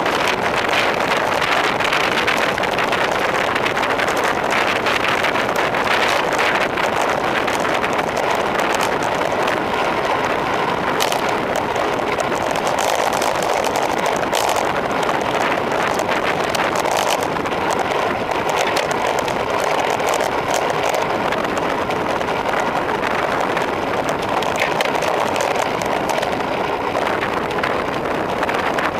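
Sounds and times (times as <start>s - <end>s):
small clicks and rattles: 0.0s - 28.9s
wind rushing over microphone: 0.0s - 28.9s.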